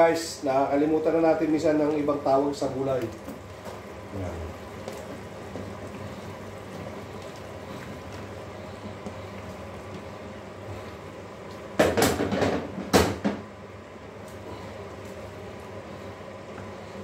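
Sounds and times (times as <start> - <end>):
low kitchen background: 0.0 - 17.0.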